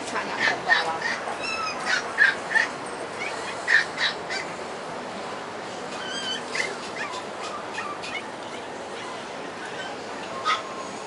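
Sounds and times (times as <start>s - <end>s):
steady background noise: 0.0s - 11.0s
puppies yipping and whining: 0.4s - 4.6s, 5.8s - 11.0s.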